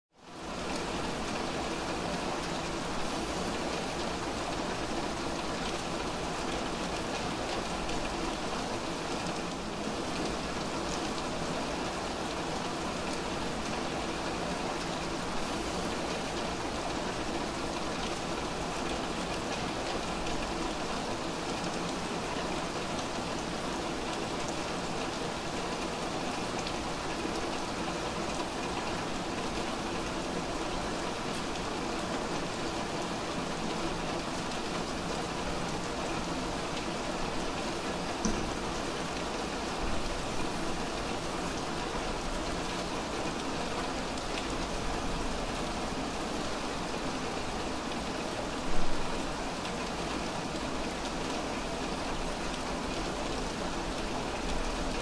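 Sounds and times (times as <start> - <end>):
heavy rain on a street: 0.1 - 55.0.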